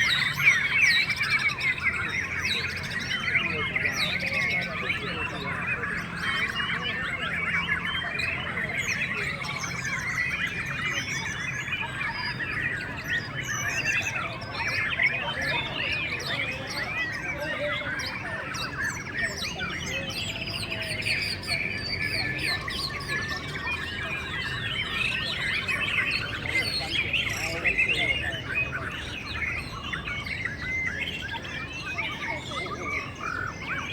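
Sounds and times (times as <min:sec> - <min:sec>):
chorus of songbirds whistling: 0:00.0 - 0:33.9.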